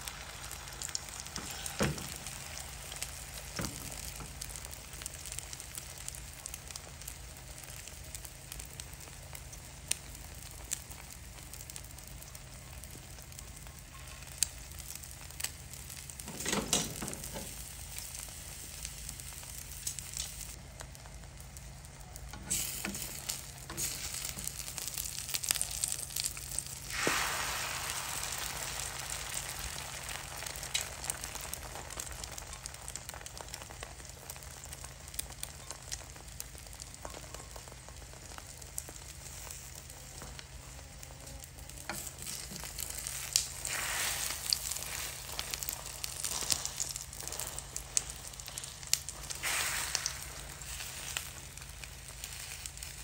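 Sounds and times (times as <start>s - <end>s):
crackles: 0.0s - 53.0s
eggs sizzling in a frying pan: 0.0s - 53.0s.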